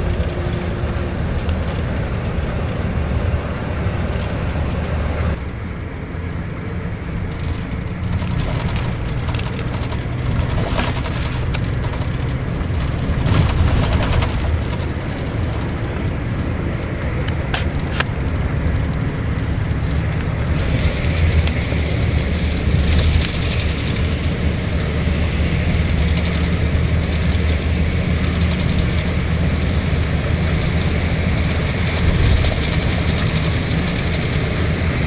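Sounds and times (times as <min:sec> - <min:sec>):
coach engine drone: 0:00.0 - 0:35.0
road and tyre noise: 0:00.0 - 0:35.0.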